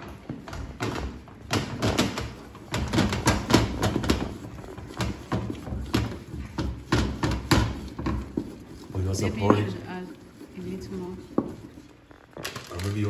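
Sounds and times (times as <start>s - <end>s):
wooden stick scraping steel pot: 0.0s - 13.0s.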